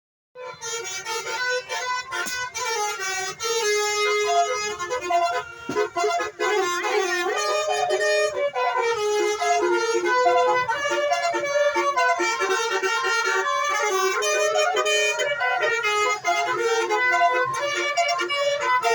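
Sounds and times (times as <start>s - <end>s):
musical vehicle air horn: 0.4s - 18.9s.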